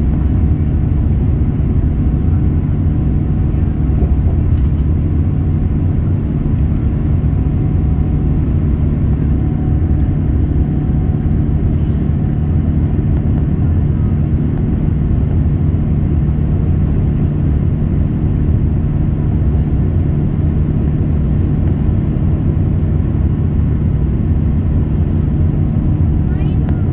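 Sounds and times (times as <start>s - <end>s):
jet engines droning in cabin: 0.0s - 26.9s.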